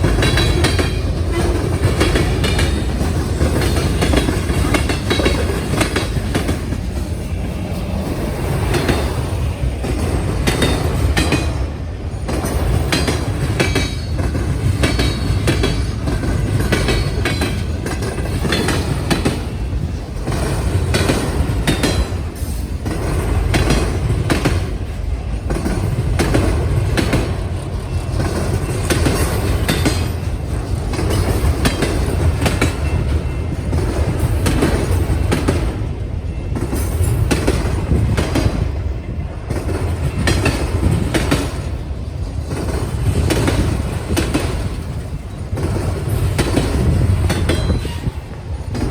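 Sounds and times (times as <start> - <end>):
train cars rumbling past: 0.0 - 48.9
wheels clacking over rail joints: 0.0 - 48.9.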